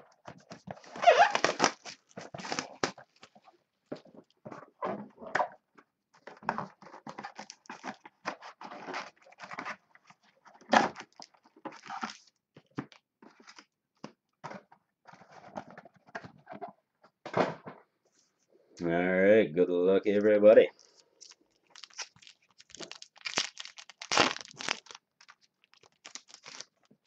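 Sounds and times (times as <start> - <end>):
crinkling and rustling packaging: 0.0 - 16.9, 20.7 - 27.0.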